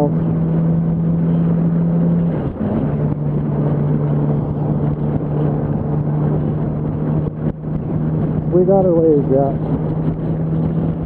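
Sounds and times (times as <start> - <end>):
motorcycle engine at speed: 0.0 - 11.0.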